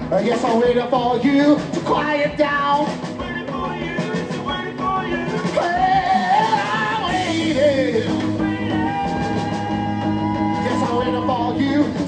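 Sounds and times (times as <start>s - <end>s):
rock band guitars and drums: 0.0s - 12.0s.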